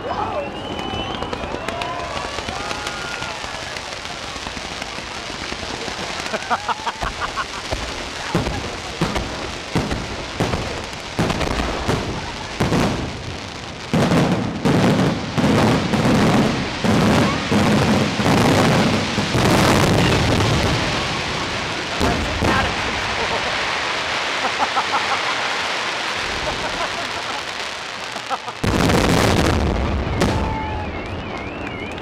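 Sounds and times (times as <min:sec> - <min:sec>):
fireworks exploding: 0:00.1 - 0:32.0.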